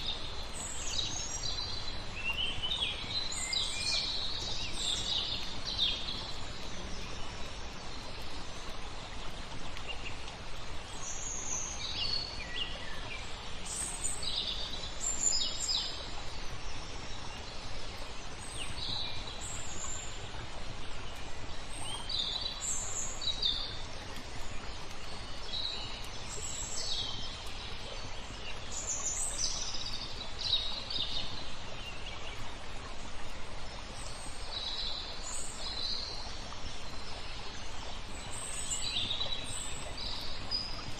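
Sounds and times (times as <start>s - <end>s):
flowing water rushing: 0.0s - 40.9s
songbirds chirping: 0.0s - 40.9s.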